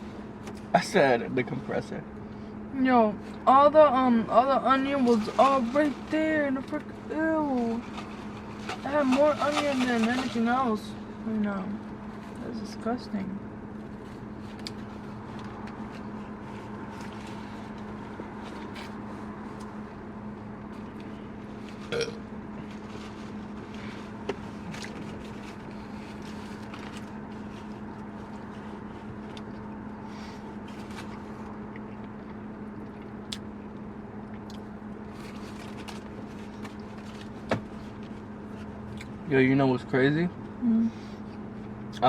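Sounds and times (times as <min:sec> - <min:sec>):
car interior drone: 0:00.0 - 0:42.0.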